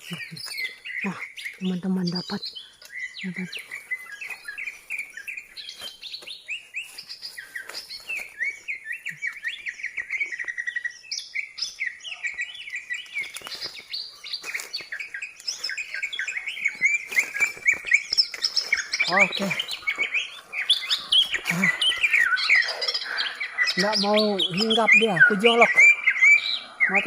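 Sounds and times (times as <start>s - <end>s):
small songbirds chirping: 0.0s - 27.0s.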